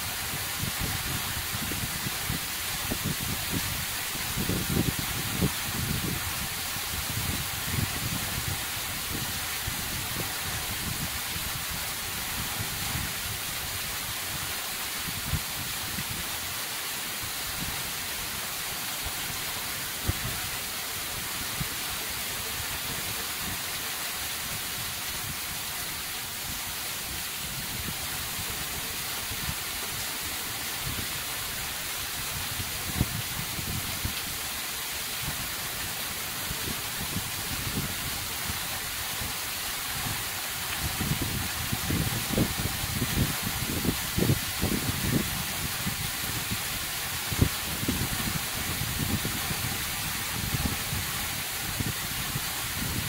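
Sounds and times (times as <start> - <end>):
waterfall spray hissing: 0.0 - 53.0.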